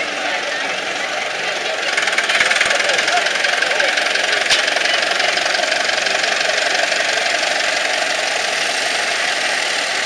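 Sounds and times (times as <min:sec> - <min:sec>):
tractor engines driving past: 0:00.0 - 0:10.0.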